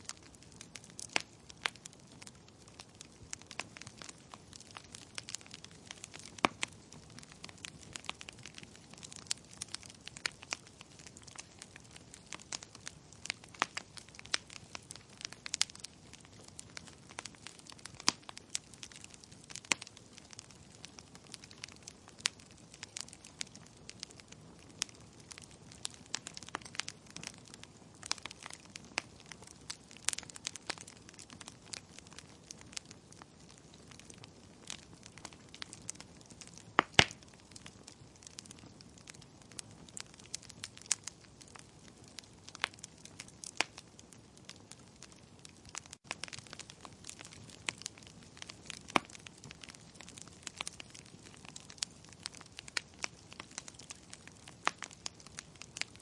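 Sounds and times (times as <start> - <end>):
logs crackling and popping: 0.0 - 56.0
soft steady fire hiss: 0.0 - 56.0.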